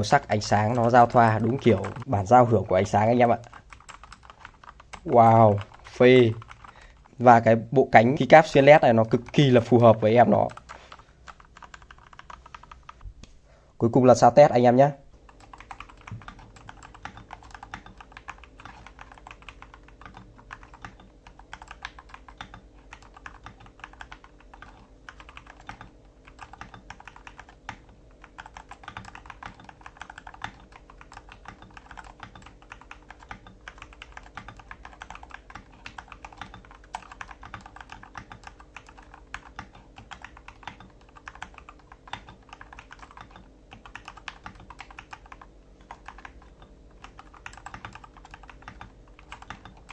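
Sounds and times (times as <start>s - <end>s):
mechanical keyboard keys clacking: 0.3s - 2.1s, 2.8s - 6.7s, 9.0s - 13.0s, 15.3s - 49.9s.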